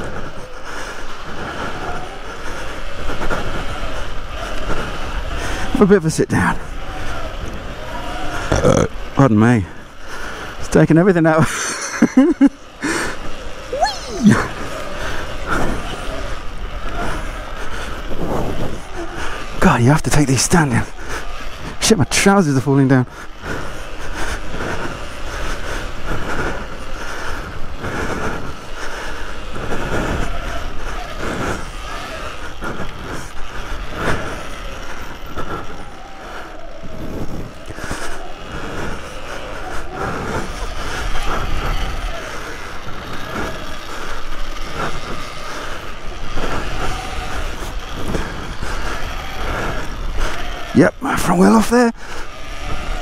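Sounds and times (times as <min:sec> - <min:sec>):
electric motorbike whine: 0:00.0 - 0:53.0.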